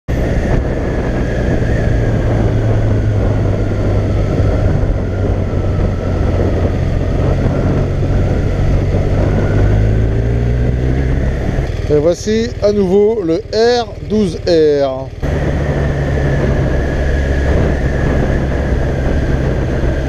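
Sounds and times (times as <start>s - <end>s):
motorcycle engine running: 0.1s - 20.0s
wind noise on microphone: 0.1s - 20.0s.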